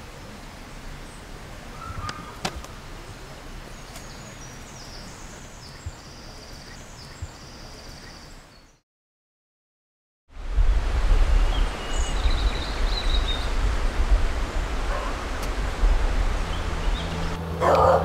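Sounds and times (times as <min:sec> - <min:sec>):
steady outdoor hiss: 0:00.0 - 0:08.8, 0:10.3 - 0:18.0.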